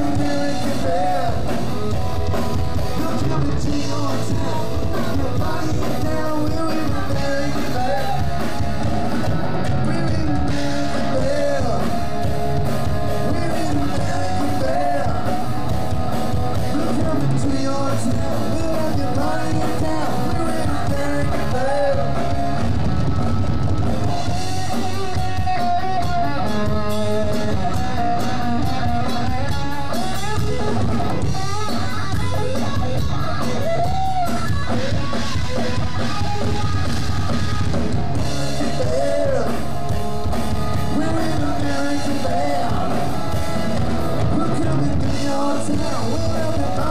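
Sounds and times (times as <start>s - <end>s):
person singing: 0.0s - 2.1s, 2.9s - 8.7s, 9.6s - 15.7s, 16.5s - 22.6s, 24.2s - 46.9s
bass guitar: 0.0s - 46.9s
drum kit: 0.0s - 46.9s
electric guitar: 0.0s - 46.9s.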